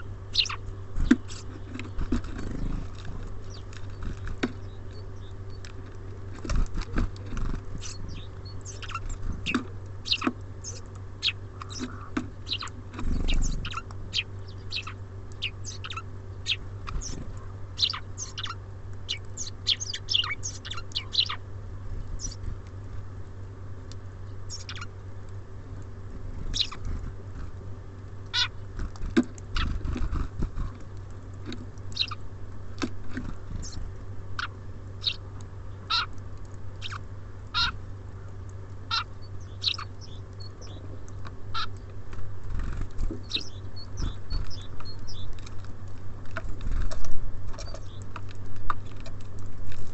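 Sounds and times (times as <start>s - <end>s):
songbirds chirping: 0.0s - 49.9s
steady low hum: 0.0s - 49.9s.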